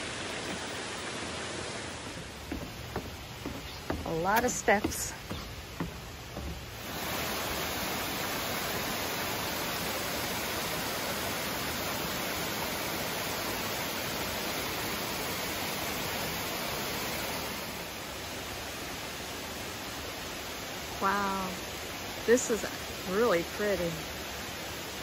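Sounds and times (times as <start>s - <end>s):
small waterfalls rushing: 0.0s - 25.0s.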